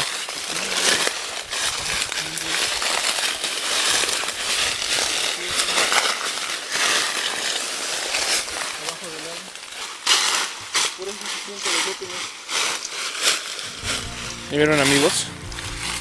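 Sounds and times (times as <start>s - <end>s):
branches scraping against clothing: 0.0s - 16.0s
footsteps crunching on dry leaves: 0.0s - 16.0s.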